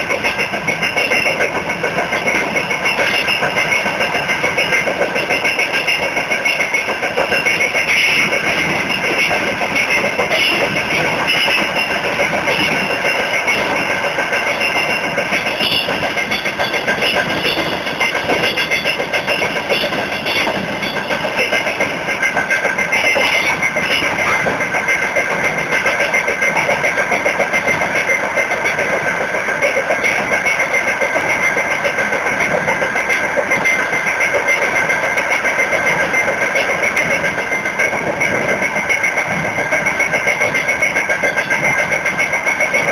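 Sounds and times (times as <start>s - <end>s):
high ringing whine: 0.0s - 42.9s
train wheels clattering over rail joints: 0.0s - 42.9s.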